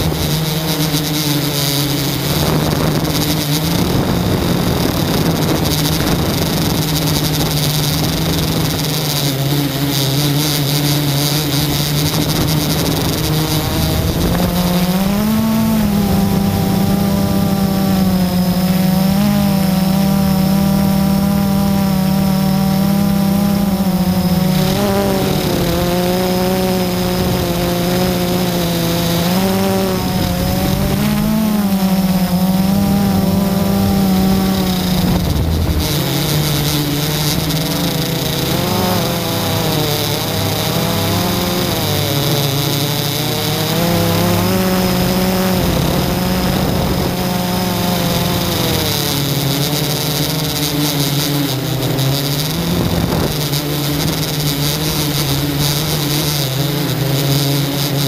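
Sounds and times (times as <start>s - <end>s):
drone motors buzzing in flight: 0.0s - 58.0s.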